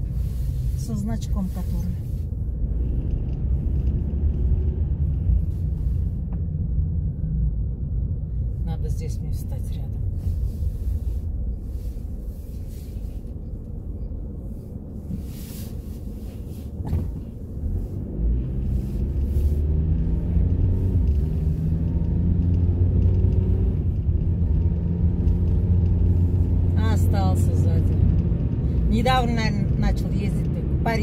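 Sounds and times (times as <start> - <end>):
car engine: 0.0 - 31.0
road rumble: 0.0 - 31.0.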